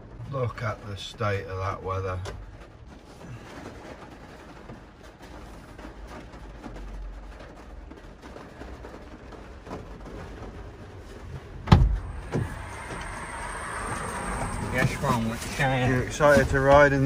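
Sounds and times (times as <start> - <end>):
rain on windscreen and roof: 0.0 - 17.0.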